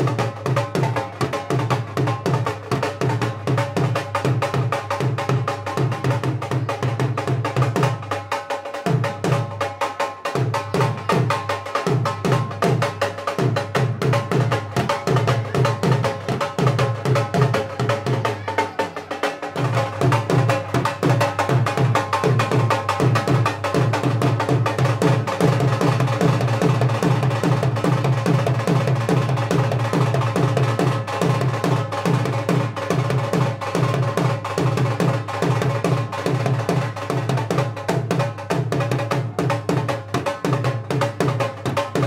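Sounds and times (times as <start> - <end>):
dhol drum fast beat: 0.0 - 42.0.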